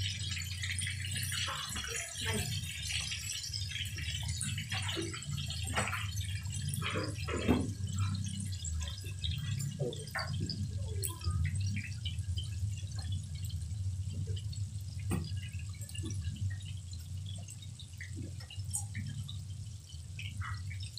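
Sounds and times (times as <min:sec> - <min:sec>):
oil sizzling and crackling: 0:00.0 - 0:20.9.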